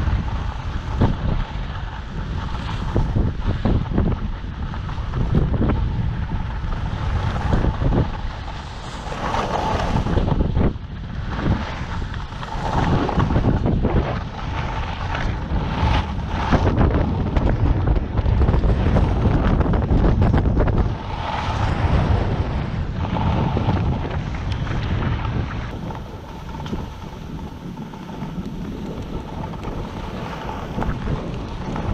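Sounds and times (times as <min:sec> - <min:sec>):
skis scraping over snow: 0:00.0 - 0:31.9
wind buffeting microphone: 0:00.0 - 0:31.9.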